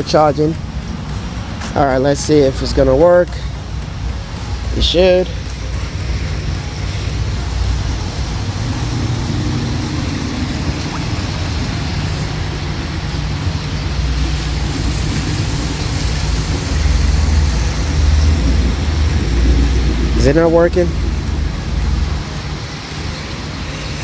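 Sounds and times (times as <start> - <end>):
low rumble: 0.0 - 24.0
broad hiss: 0.6 - 24.0.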